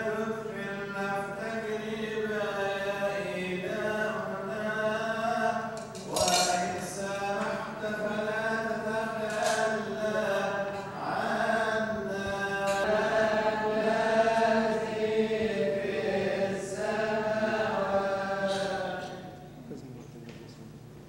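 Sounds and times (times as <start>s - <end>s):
voices chanting held notes: 0.0s - 19.6s.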